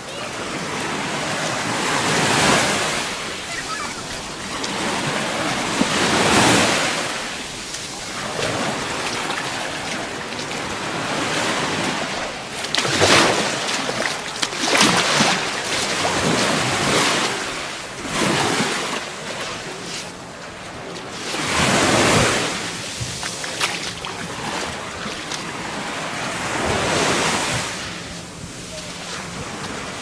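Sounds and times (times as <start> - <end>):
small waves breaking on sand: 0.0 - 30.0.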